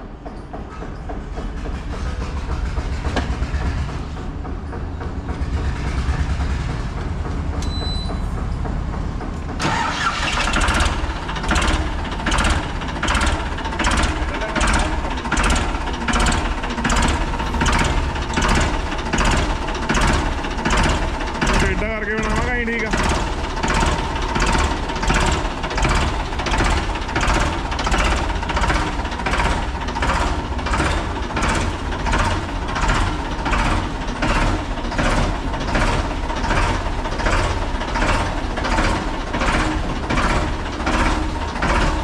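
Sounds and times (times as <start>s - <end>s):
tractor engine rumbling: 0.0s - 42.0s.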